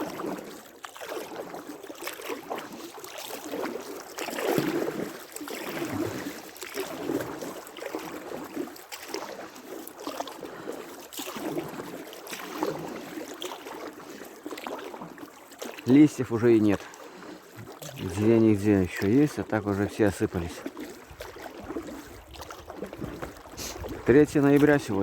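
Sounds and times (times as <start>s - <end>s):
oars splashing in water: 0.0s - 25.0s.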